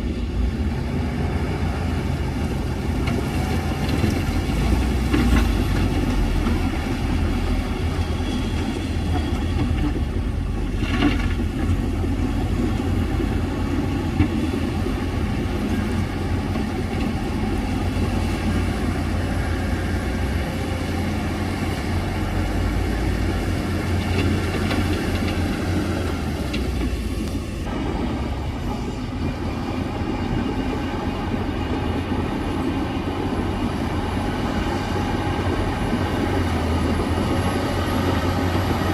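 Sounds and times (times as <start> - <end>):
diesel engine rumble: 0.0 - 38.9.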